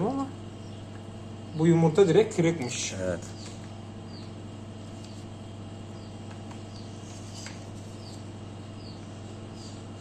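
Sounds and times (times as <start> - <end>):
chicks peeping: 0.0 - 10.0
incubator machinery hum: 0.0 - 10.0.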